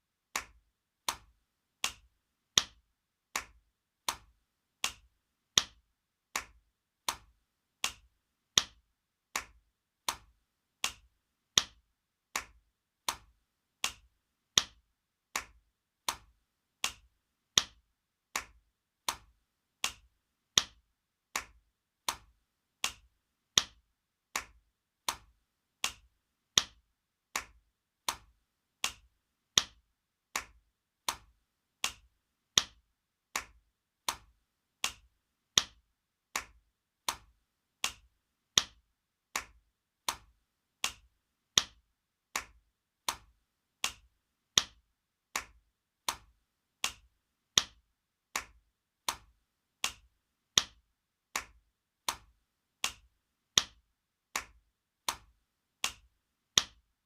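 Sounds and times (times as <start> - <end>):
hand slapping skin: 0.3 - 53.8, 54.4 - 56.8.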